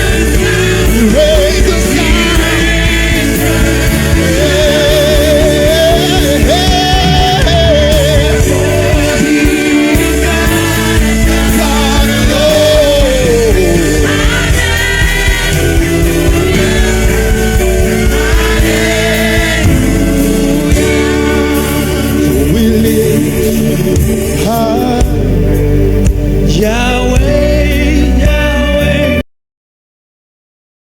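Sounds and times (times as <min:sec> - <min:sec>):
band accompaniment with bass: 0:00.0 - 0:29.2
person singing gospel: 0:00.0 - 0:29.2.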